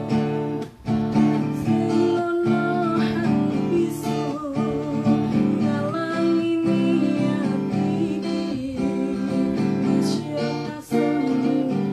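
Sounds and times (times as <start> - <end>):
strummed acoustic guitar: 0.0 - 11.9
woman singing: 0.0 - 11.9.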